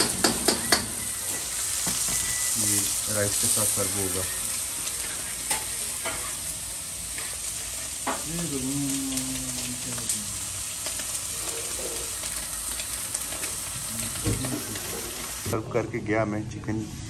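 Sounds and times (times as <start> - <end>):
food sizzling in a pan: 0.0 - 15.6.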